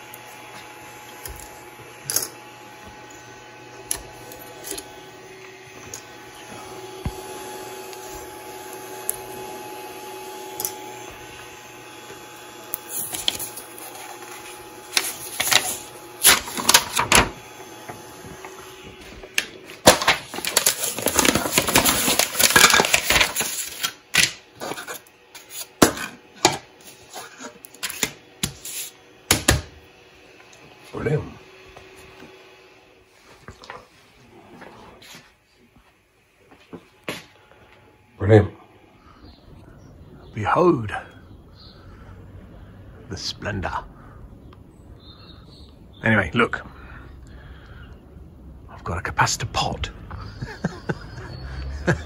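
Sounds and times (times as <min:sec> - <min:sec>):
three d printer humming: 0:00.0 - 0:46.0, 0:49.5 - 0:52.0.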